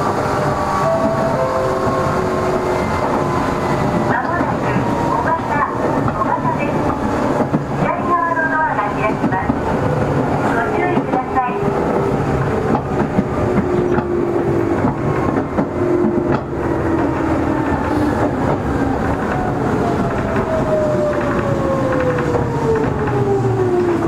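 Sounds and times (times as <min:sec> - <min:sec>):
train running rumble: 0:00.0 - 0:24.0
rail-joint clicks: 0:00.3 - 0:24.0.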